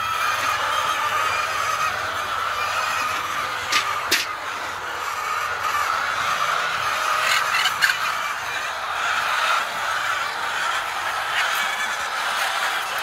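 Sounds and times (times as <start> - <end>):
flock of fowl calling: 0.0 - 13.0.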